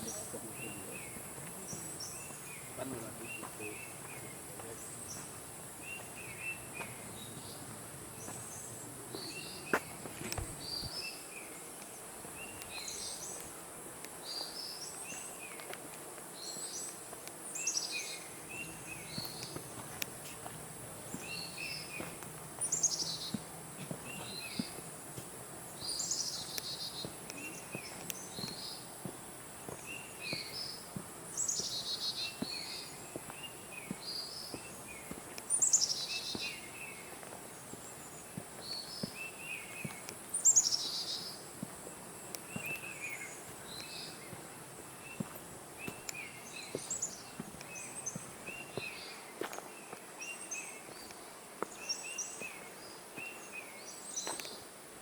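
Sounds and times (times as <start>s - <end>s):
birds chirping: 0.0s - 54.8s
steady high-pitched hiss: 0.0s - 55.0s.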